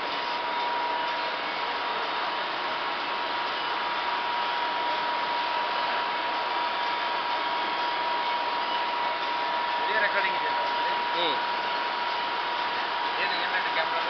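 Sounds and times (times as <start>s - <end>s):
high machine whine: 0.0s - 14.0s
machine whirring: 0.0s - 14.0s.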